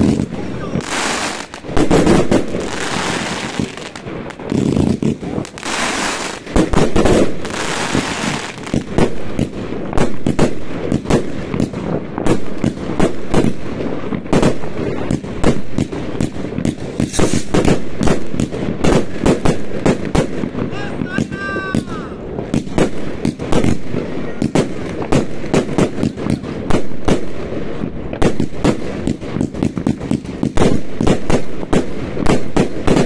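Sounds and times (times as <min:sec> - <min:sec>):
firecracker bangs: 0:00.0 - 0:33.0
fireworks hissing and crackling: 0:00.0 - 0:33.0.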